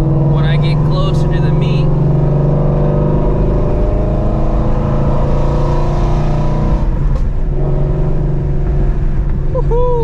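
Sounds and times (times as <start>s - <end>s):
loud car engine running: 0.0s - 10.0s.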